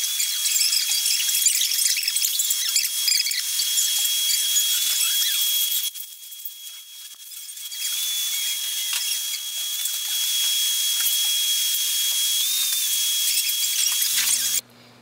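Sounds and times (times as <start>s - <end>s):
milling machine whining: 0.0s - 6.0s, 6.8s - 14.6s.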